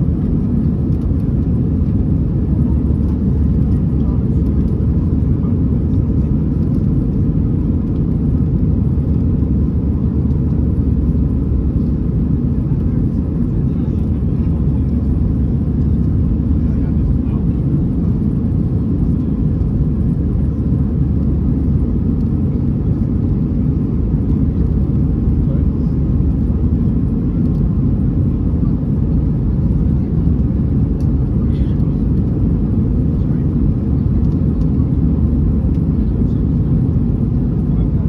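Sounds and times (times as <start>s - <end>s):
jet engine roar in cabin: 0.0s - 38.0s.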